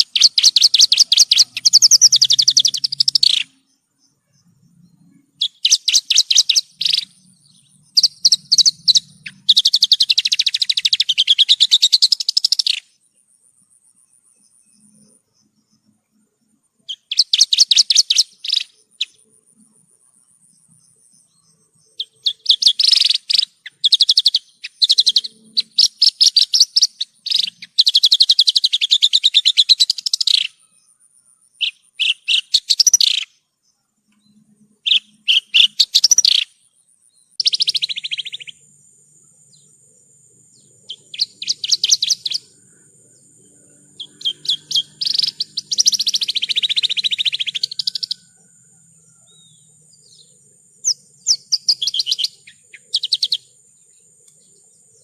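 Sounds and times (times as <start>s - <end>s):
lark singing trilled phrases: 0.0s - 3.7s, 4.4s - 13.0s, 16.9s - 19.4s, 21.3s - 30.8s, 31.6s - 33.4s, 34.8s - 36.7s, 37.3s - 48.5s, 49.1s - 55.0s.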